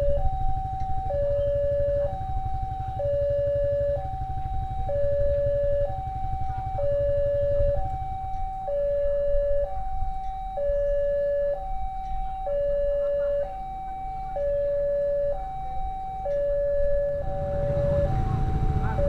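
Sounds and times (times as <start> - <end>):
low engine rumble: 0.0 - 19.0
two-tone crossing alarm: 0.0 - 19.0.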